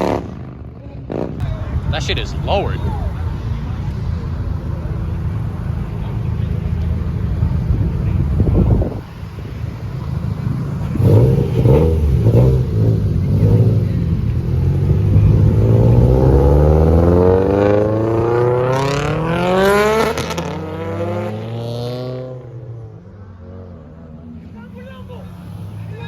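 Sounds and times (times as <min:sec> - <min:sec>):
car engine revving and accelerating: 0:00.0 - 0:26.0.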